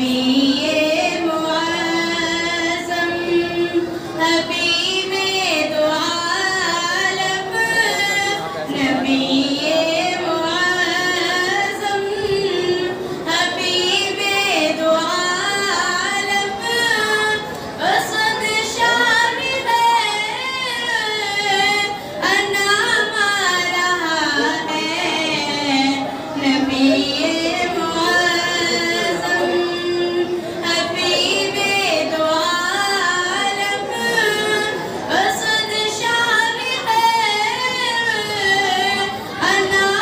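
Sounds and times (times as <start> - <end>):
woman singing unaccompanied: 0.0 - 40.0.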